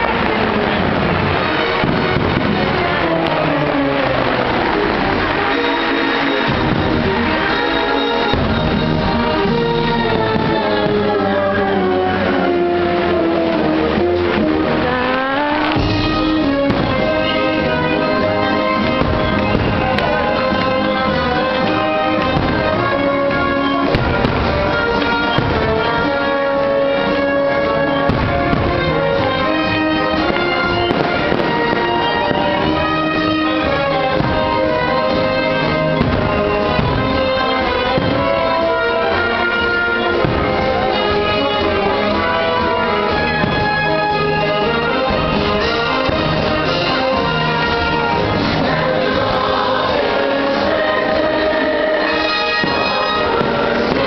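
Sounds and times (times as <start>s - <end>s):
fireworks bursting: 0.0s - 54.0s
loud show music: 0.0s - 54.0s.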